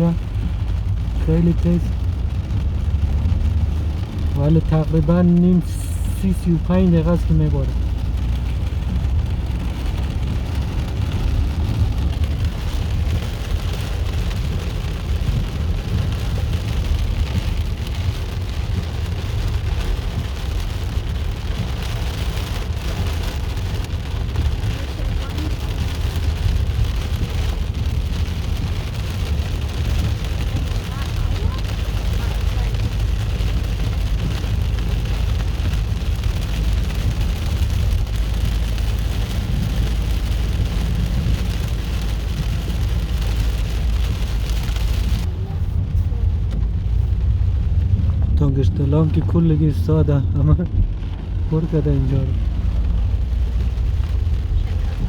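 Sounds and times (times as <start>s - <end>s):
deep rumble: 0.0s - 55.0s
heavy rain falling: 0.0s - 55.0s.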